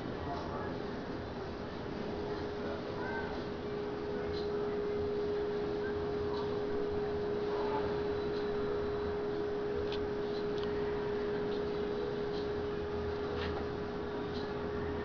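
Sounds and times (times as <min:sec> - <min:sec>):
steady single-pitch hum: 0:00.0 - 0:15.0.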